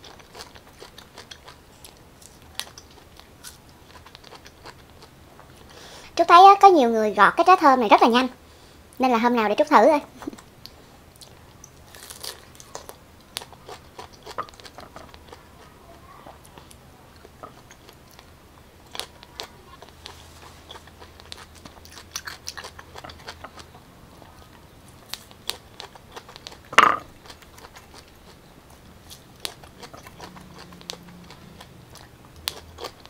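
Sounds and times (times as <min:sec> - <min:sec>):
person chewing pineapple: 0:00.0 - 0:05.8, 0:10.3 - 0:33.0.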